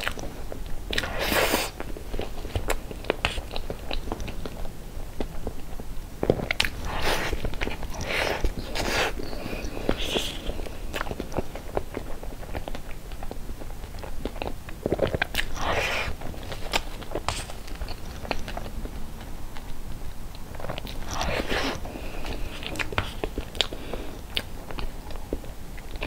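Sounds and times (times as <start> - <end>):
wet chewing and mouth clicks: 0.0 - 26.0.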